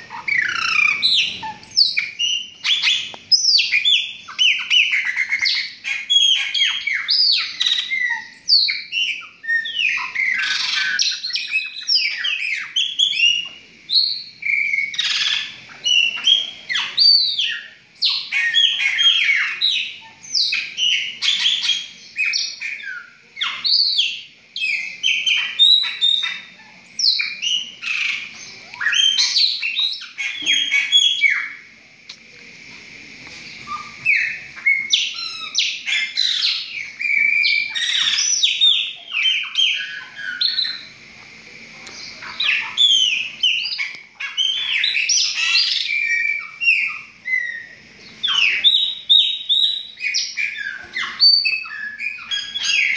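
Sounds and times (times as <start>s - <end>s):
blackbirds chirping and whistling: 0.0s - 31.8s, 33.3s - 41.1s, 41.9s - 52.9s.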